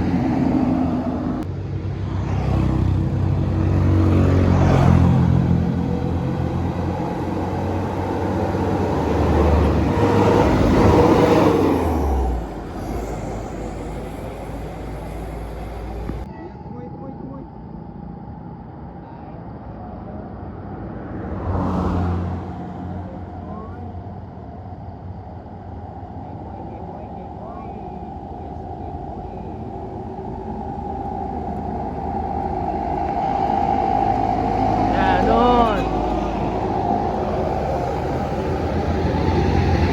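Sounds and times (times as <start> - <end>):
diesel vehicle engine climbing: 0.0 - 16.3, 19.7 - 39.9.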